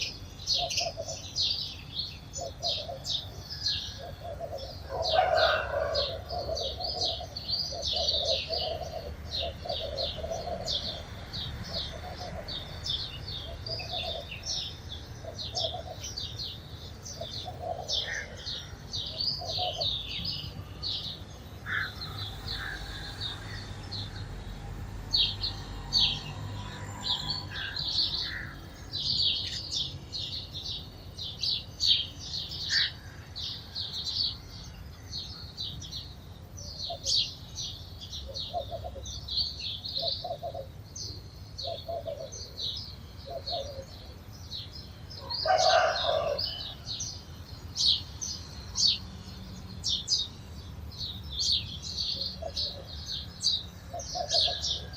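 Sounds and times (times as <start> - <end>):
lower-pitched bird calls: 0.0 - 31.0, 31.6 - 50.4, 51.1 - 54.9
sparrows chirping: 0.0 - 54.9.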